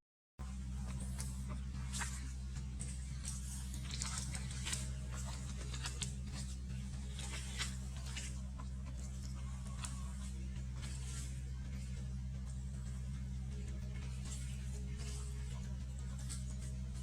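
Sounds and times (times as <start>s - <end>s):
steady low hum: 0.4s - 17.0s.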